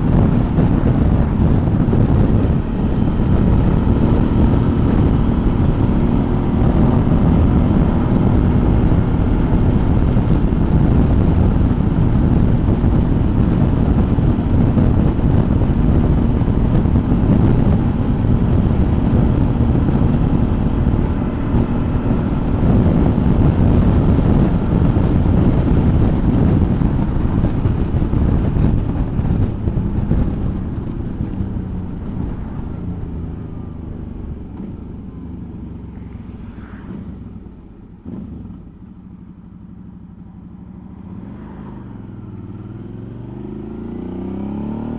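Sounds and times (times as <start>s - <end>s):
wind on camera: 0.0s - 38.9s
motorcycle engine: 0.0s - 44.9s.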